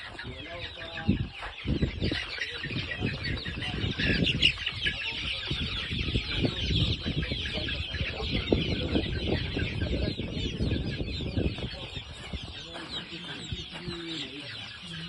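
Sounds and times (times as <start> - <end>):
chicks peeping: 0.0 - 15.0
low rumble on microphone: 0.3 - 14.1.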